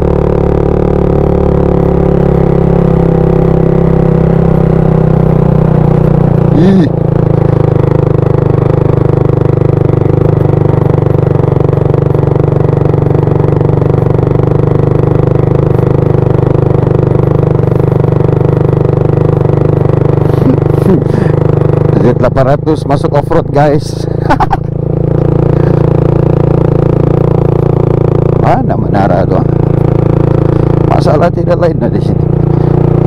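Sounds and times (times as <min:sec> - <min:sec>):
motor scooter engine running: 0:00.0 - 0:33.0.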